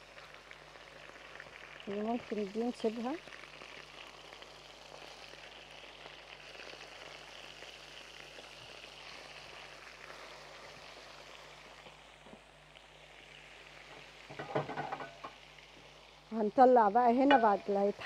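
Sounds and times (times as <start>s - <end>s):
steak sizzling in a pot: 0.0s - 18.0s.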